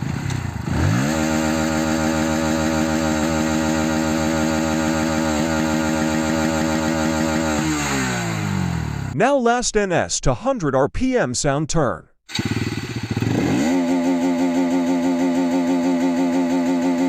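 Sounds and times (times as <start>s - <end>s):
motorcycle engine revving high: 0.0s - 9.2s, 12.3s - 17.0s.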